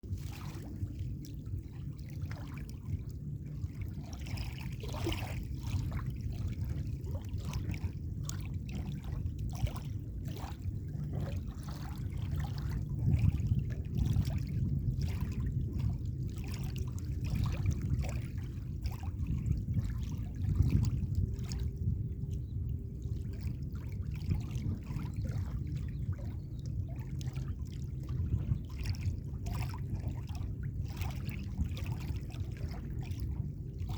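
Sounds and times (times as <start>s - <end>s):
steady low rumble: 0.0s - 33.9s
small waves lapping on shore: 0.1s - 33.9s.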